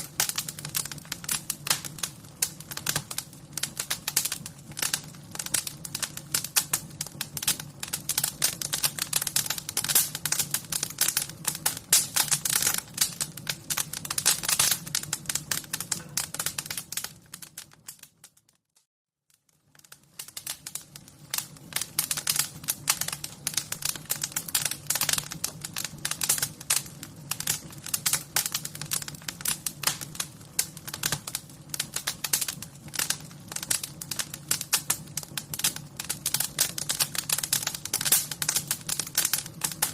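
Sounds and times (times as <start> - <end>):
wood fire crackling: 0.0 - 18.6, 19.3 - 39.9.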